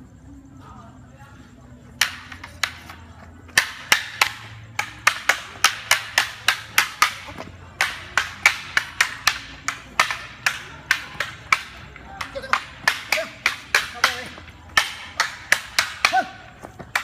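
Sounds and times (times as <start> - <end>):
wooden staffs clacking together: 1.9 - 17.0.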